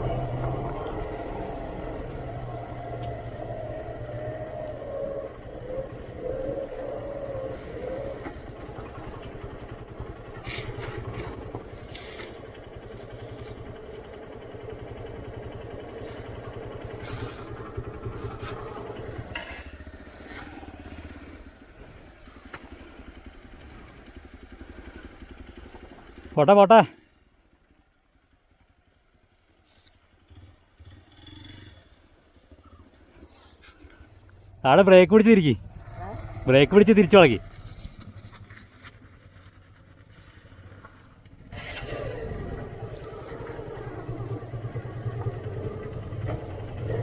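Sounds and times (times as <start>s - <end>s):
motorcycle engine at low revs: 0.0s - 47.0s.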